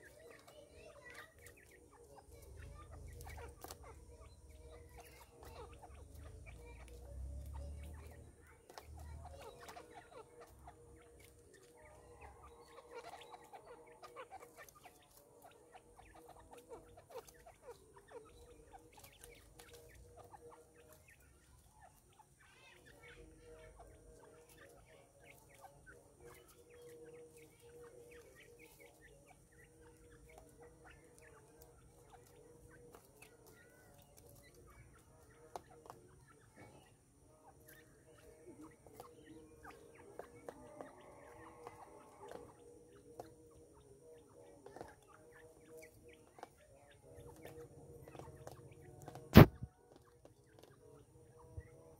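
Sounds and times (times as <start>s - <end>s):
birds making short calls: 0.0s - 51.9s.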